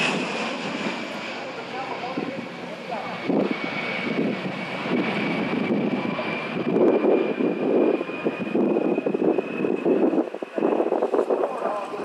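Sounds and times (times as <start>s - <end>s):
jet engine whine and roar: 0.0s - 12.0s.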